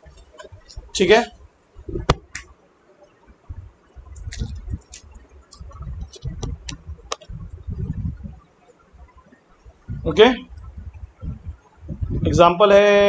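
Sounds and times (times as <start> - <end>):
low dull thumps: 0.0 - 2.6, 3.3 - 12.4.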